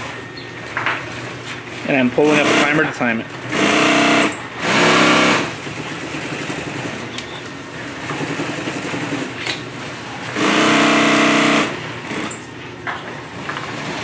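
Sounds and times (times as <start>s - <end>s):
industrial sewing machine stitching: 1.1s - 12.4s, 13.2s - 14.0s.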